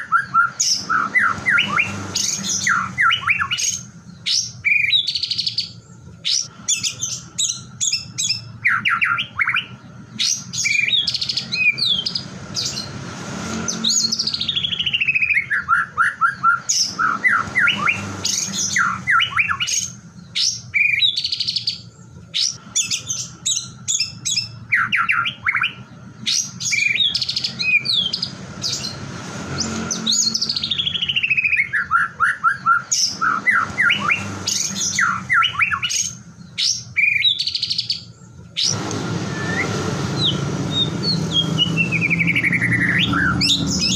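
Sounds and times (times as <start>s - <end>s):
bird whistles and chirps: 0.0s - 12.9s, 13.5s - 43.9s.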